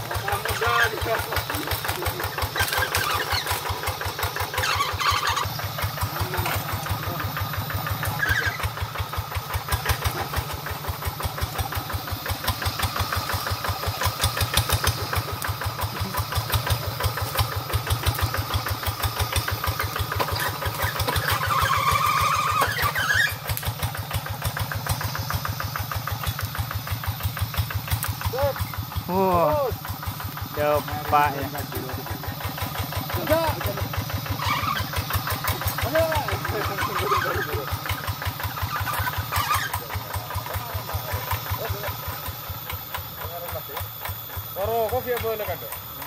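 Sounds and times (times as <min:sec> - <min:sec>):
diesel engine chugging: 0:00.0 - 0:46.0.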